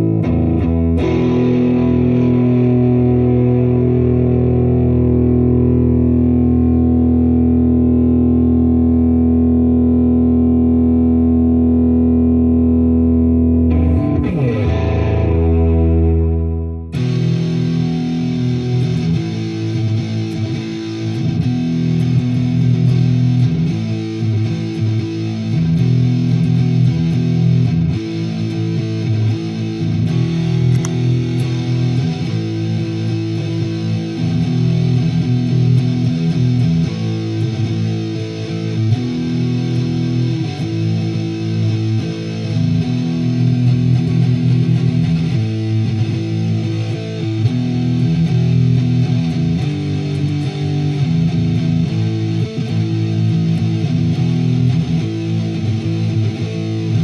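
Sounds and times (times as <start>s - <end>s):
electric guitar strumming chords: 0.0s - 57.0s.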